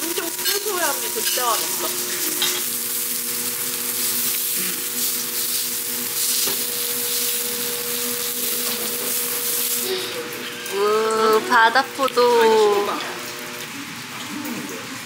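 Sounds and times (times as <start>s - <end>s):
seafood sizzling on a griddle: 0.0s - 15.0s.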